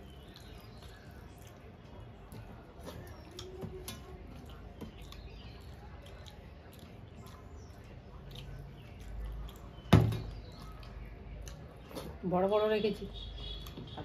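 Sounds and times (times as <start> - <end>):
hands mixing food on steel plates: 0.0 - 14.0.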